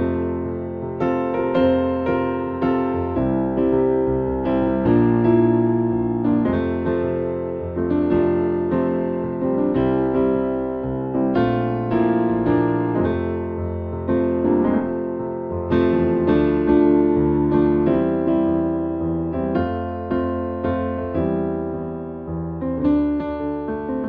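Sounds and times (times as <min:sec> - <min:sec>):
electric piano chords: 0:00.0 - 0:24.0.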